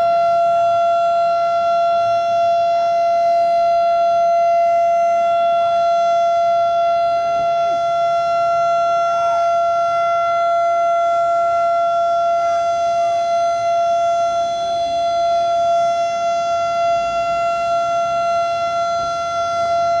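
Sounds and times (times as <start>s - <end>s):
steady siren tone: 0.0s - 20.0s.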